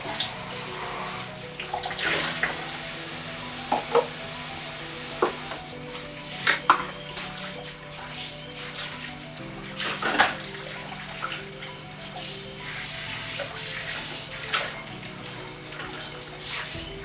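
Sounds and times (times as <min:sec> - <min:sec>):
pots and utensils clinking: 0:00.0 - 0:17.0
running water: 0:00.0 - 0:17.0
soft background music: 0:00.0 - 0:17.0.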